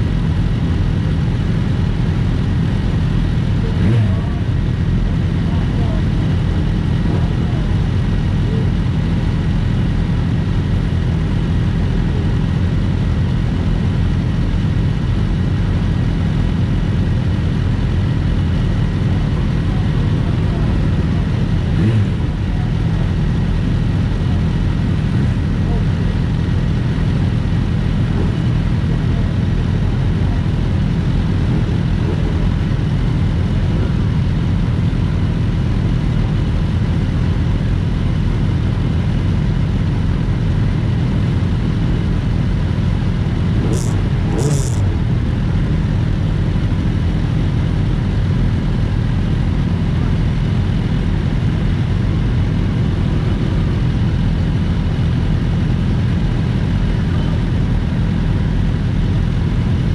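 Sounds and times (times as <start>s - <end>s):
motorcycles idling: 0.0s - 59.9s.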